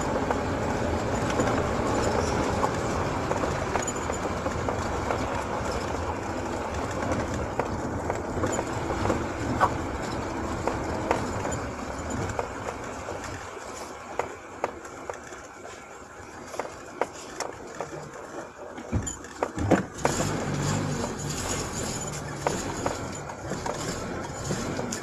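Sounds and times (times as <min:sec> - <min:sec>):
car knocks and rattles: 0:00.0 - 0:15.6, 0:16.3 - 0:25.0
car engine and road noise: 0:00.0 - 0:25.0.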